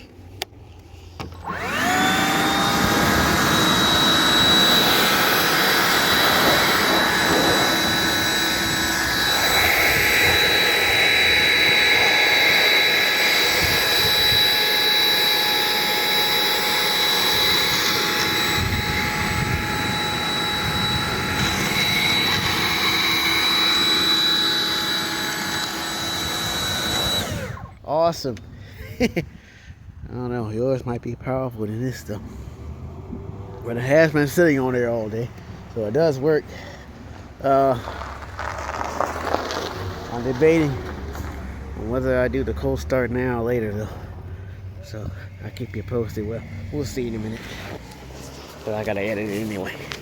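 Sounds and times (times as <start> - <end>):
leaf blower whining: 0.0 - 29.2, 32.2 - 50.0.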